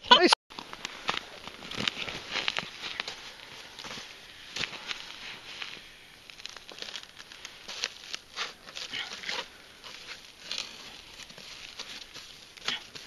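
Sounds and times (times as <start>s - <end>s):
crunching and scraping of ice: 0.6s - 13.0s.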